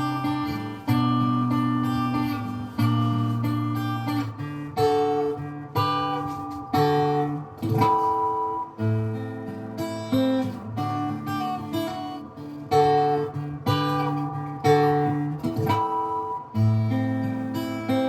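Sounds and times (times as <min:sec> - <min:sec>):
acoustic guitar instrumental: 0:00.0 - 0:18.0.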